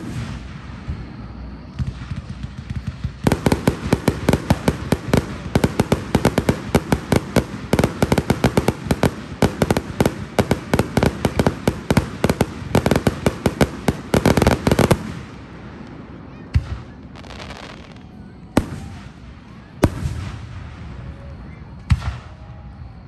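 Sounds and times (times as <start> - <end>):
firework bangs: 0.0 - 22.8.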